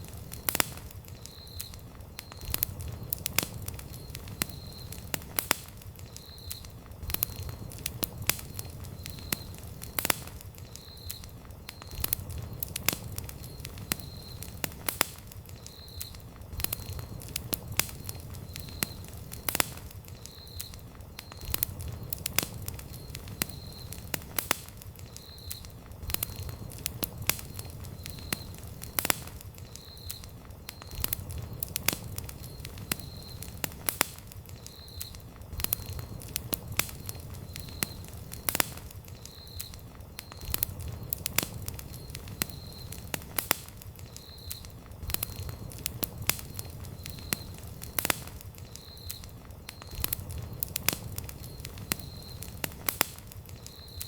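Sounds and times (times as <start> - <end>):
campfire crackling: 0.0 - 54.0
low rumble of flames: 0.0 - 54.0.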